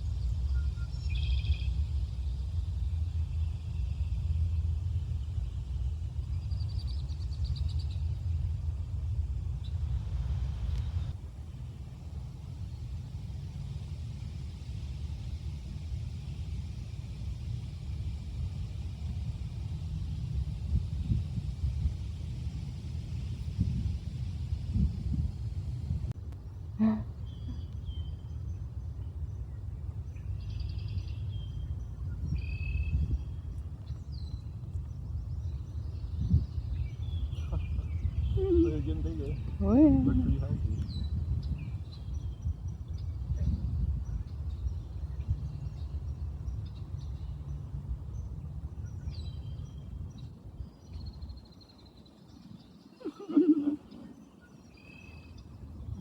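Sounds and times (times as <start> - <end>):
small birds chirping: 0.0 - 11.2, 12.1 - 56.0
songbirds calling and singing: 0.0 - 11.2, 12.6 - 56.0
wind rumble on microphone: 0.0 - 56.0.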